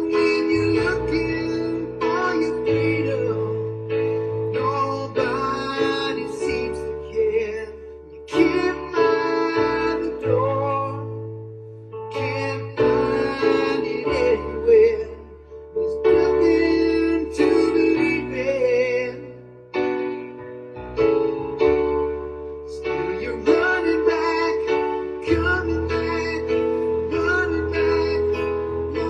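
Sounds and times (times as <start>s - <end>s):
person singing: 0.0s - 11.4s, 12.0s - 19.5s, 22.6s - 29.0s
keyboard chords: 0.0s - 29.0s.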